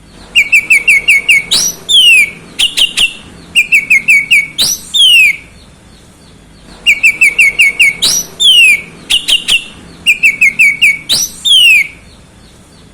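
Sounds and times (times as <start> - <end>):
bird singing loudly: 0.0 - 5.7, 6.8 - 12.3.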